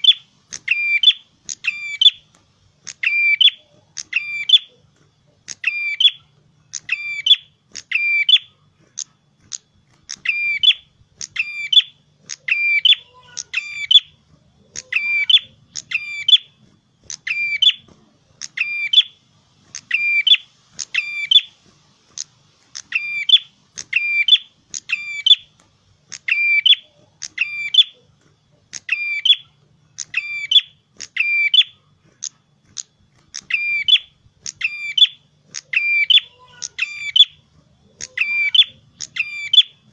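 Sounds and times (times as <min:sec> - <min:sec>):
prinia bird chirping: 0:00.0 - 0:08.6, 0:09.4 - 0:39.9.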